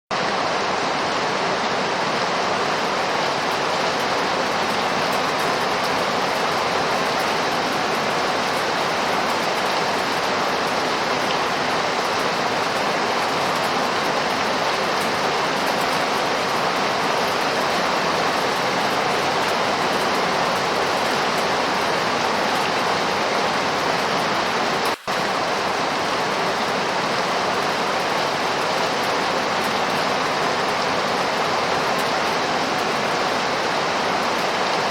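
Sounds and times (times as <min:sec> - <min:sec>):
steady rain hissing: 0:00.1 - 0:34.9.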